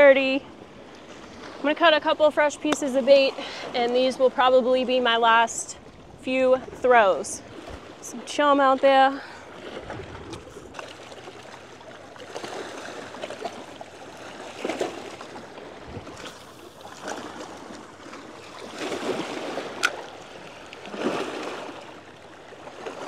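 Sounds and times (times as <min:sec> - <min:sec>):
small waves lapping: 0:00.0 - 0:23.0.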